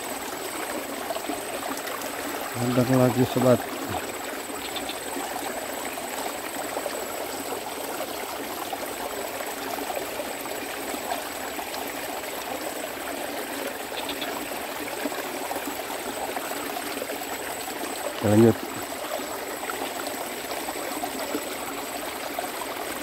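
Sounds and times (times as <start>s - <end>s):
flowing water rushing: 0.0s - 23.0s.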